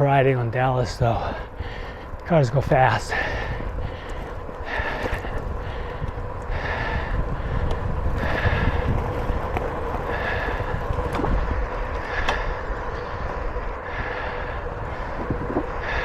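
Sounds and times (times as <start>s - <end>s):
wind buffeting microphone: 0.0s - 16.0s
heavy breathing: 1.0s - 16.0s.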